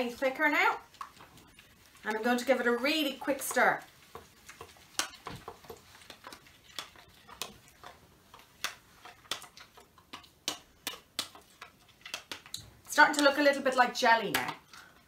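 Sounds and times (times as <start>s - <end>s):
spoon stirring slime in plastic bowl: 0.0s - 15.0s.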